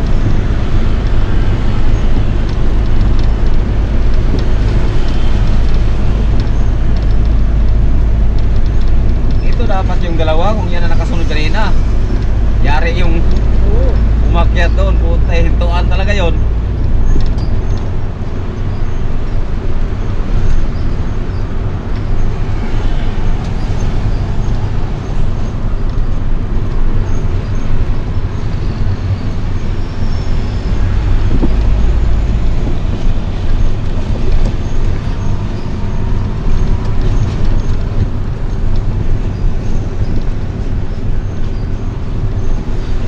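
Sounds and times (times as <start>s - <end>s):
road noise: 0.0s - 43.0s
vehicle engine rumble: 0.0s - 43.0s.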